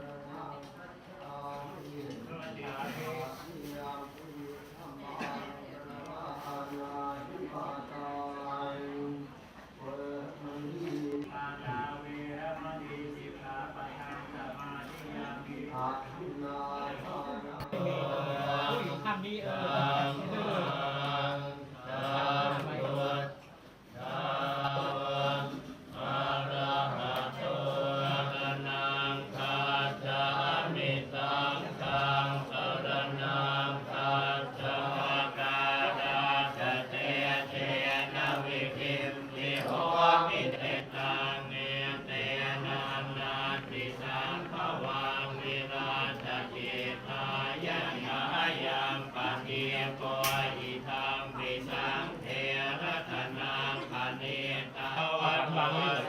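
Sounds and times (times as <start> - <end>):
monks chanting in unison: 0.0 - 56.0.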